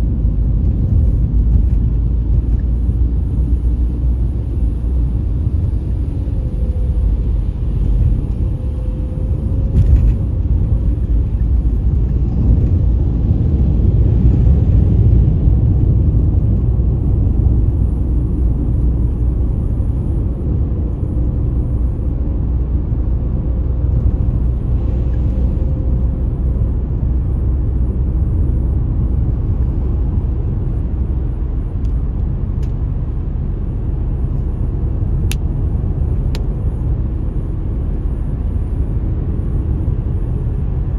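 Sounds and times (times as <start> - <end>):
car road noise rumble: 0.0 - 40.9.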